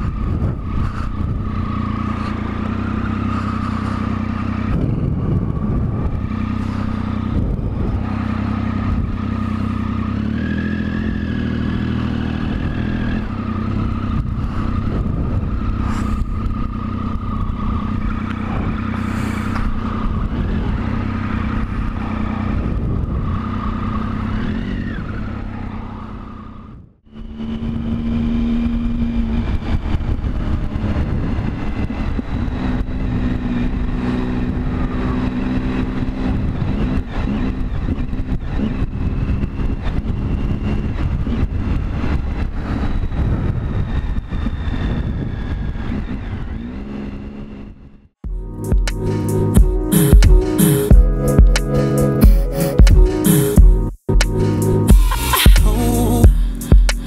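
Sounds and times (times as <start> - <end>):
wind rumble on microphone: 0.0 - 25.6, 26.7 - 47.8
motorcycle engine running: 0.0 - 43.8, 46.0 - 57.0.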